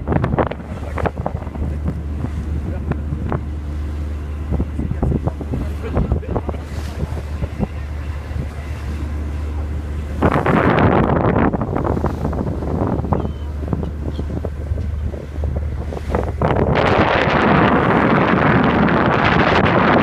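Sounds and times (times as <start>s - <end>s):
boat engine droning: 0.0s - 20.0s
wind buffeting microphone: 0.0s - 20.0s.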